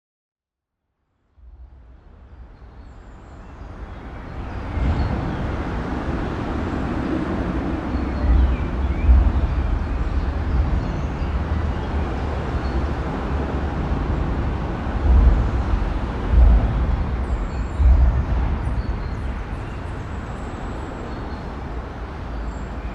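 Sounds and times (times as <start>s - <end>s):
traffic rumbling over a bridge: 1.5s - 22.9s.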